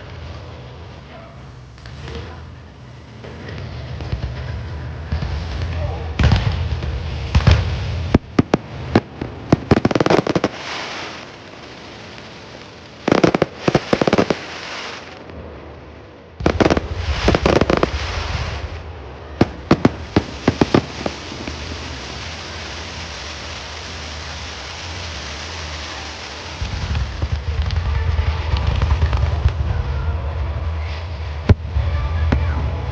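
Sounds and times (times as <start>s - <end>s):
fireworks bangs and crackles: 0.0s - 32.9s
steady noisy hiss: 0.0s - 32.9s.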